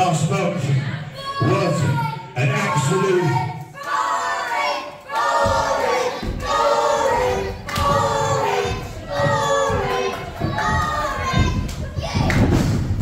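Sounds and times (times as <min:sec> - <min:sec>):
crowd chanting in unison: 0:00.8 - 0:12.5.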